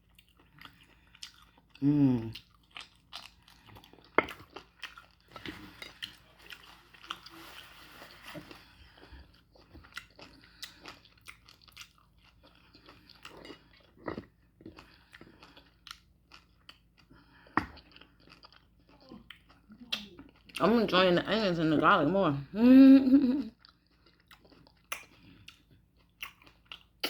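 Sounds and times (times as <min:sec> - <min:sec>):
person chewing and lip smacking: 0:00.0 - 0:07.4, 0:08.9 - 0:20.6, 0:23.4 - 0:27.0.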